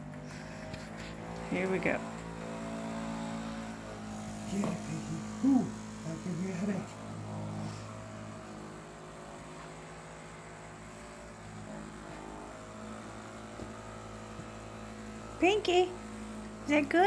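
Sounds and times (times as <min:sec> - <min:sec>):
massager motor humming: 0:00.0 - 0:17.0.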